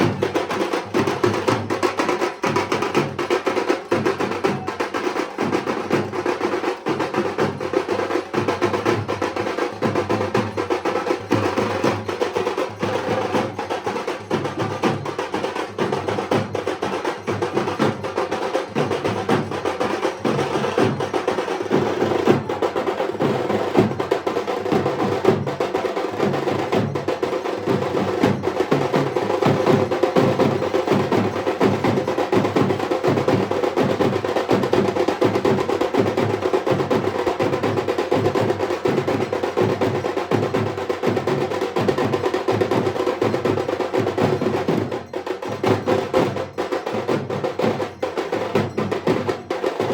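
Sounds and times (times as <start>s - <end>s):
barrel drum beaten with sticks: 0.0s - 49.9s.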